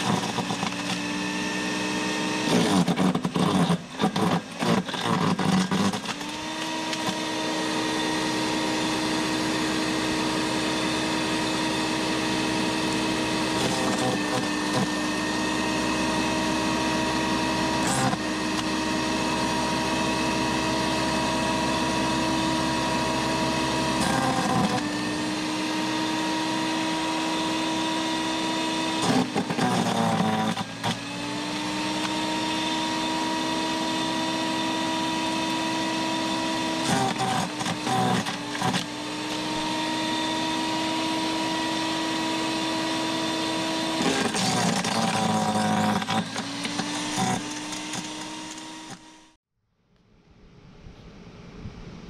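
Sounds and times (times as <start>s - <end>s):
electric wood chipper whining: 0.0s - 49.4s.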